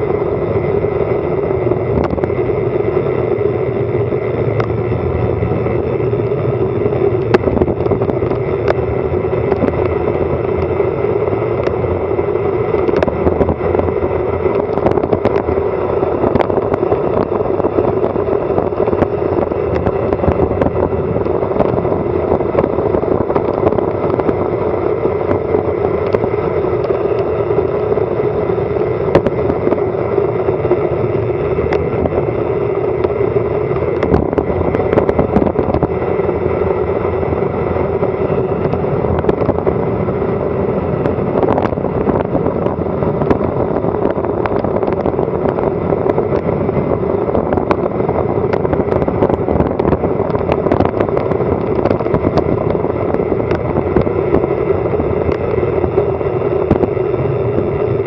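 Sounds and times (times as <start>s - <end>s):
tyre and road noise: 0.0s - 58.0s
wind rushing over microphone: 0.0s - 58.0s.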